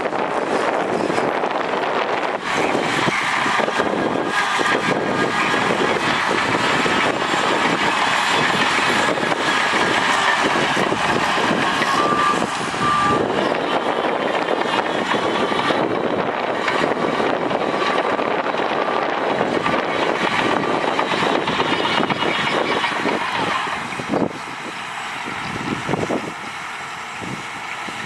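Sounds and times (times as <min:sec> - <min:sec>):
heavy diesel machinery running: 0:00.0 - 0:28.0.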